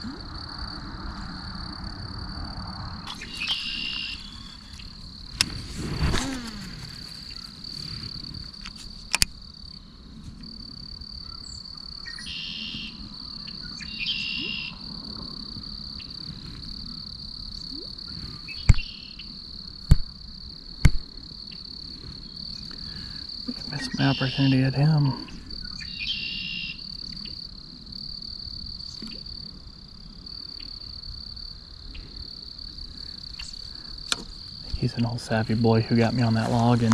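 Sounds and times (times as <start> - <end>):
crickets chirping: 0.0 - 36.9.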